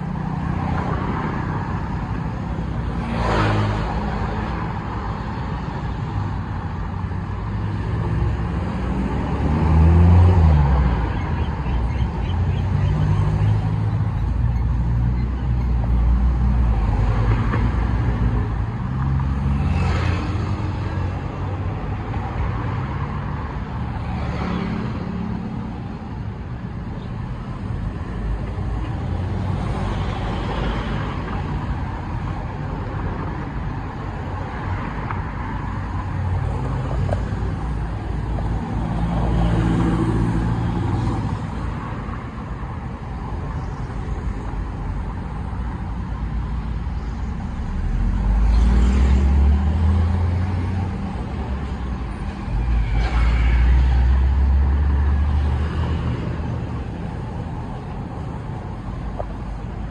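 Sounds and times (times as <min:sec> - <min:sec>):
road traffic driving past: 0:00.0 - 0:59.9.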